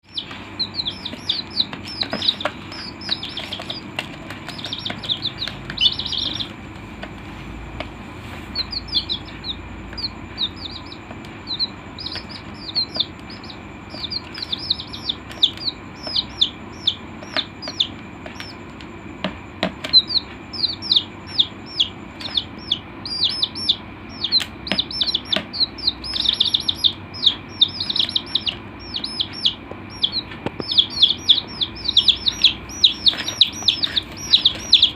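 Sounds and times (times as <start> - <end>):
chicks peeping: 0.0 - 34.9
faint steady hum: 0.0 - 34.9.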